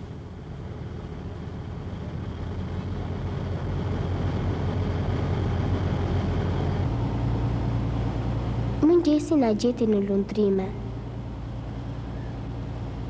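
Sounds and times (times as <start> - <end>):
ship engine rumbling: 0.0 - 13.0.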